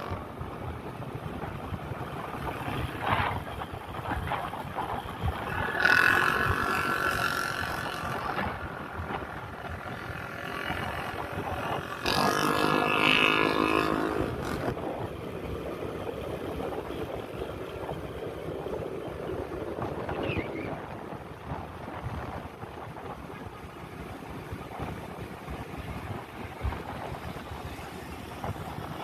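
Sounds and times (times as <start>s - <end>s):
traffic noise: 0.0s - 29.0s
wind on microphone: 0.0s - 29.0s.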